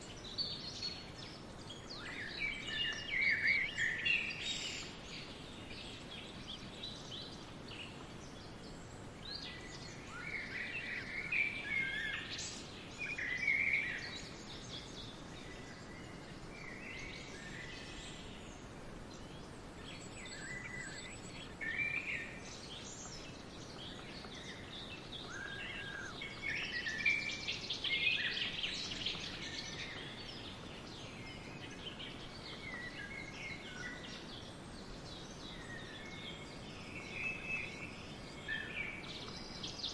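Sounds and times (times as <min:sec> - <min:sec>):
steady background hiss: 0:00.0 - 0:39.9
wild birds chirping: 0:00.0 - 0:39.9.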